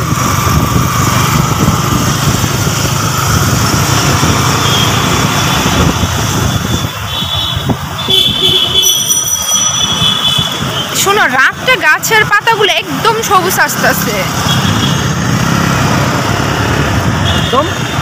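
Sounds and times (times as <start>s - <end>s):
motorcycle engine running: 0.0s - 10.9s, 12.8s - 18.0s
wind and road noise rumble: 0.0s - 18.0s.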